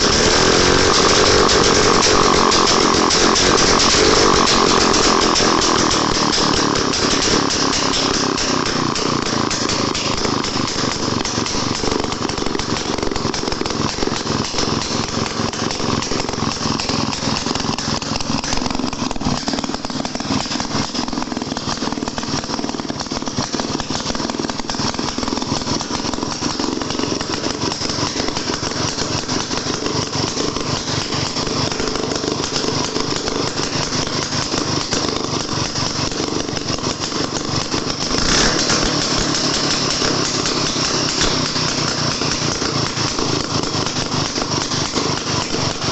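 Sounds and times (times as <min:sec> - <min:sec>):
two-stroke engine pulsing: 0:00.0 - 0:45.9.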